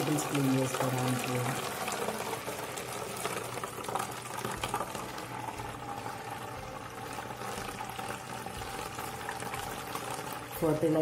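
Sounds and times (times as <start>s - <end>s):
liquid pouring through funnel into bottle: 0.0s - 11.0s.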